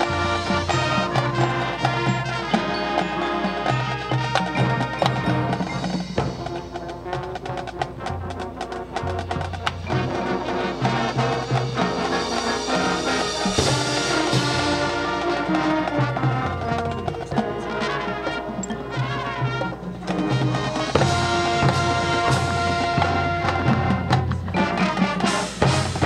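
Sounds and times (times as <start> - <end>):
brass ensemble: 0.0 - 26.0
front ensemble percussion: 0.0 - 26.0
marching drums: 0.0 - 26.0.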